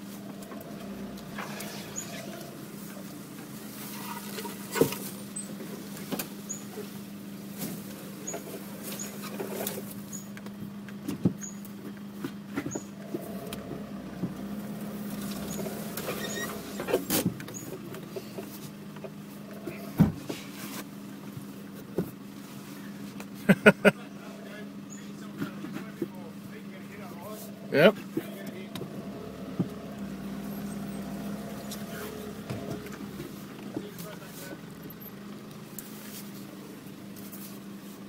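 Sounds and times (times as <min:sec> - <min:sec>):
truck engine running: 0:00.0 - 0:38.0.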